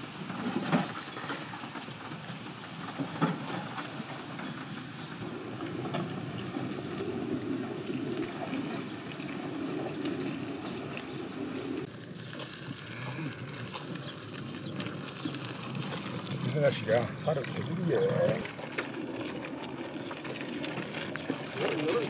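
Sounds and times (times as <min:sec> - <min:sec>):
wheelbarrow clunks: 0:00.0 - 0:10.6, 0:12.3 - 0:22.0
steady outdoor hiss: 0:00.0 - 0:22.0.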